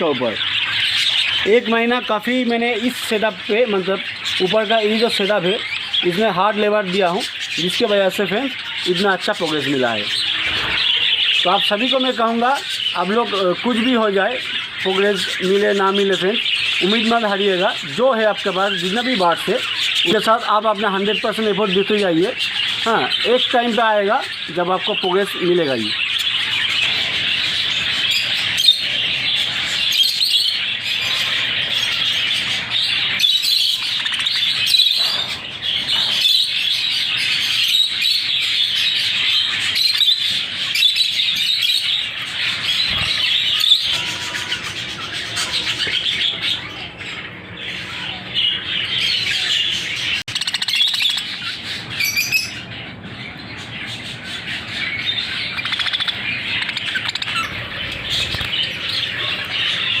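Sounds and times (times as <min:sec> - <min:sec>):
flock of budgerigars chattering: 0:00.0 - 1:00.0.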